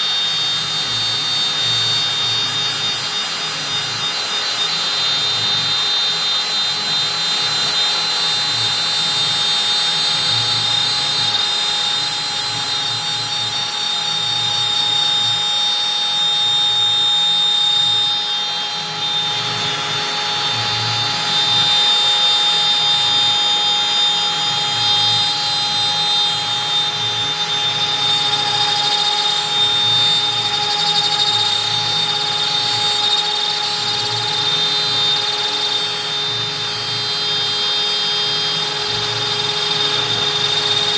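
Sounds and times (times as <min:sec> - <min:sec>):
router bit cutting wood: 0:00.0 - 0:40.9
router spindle whine: 0:00.0 - 0:40.9.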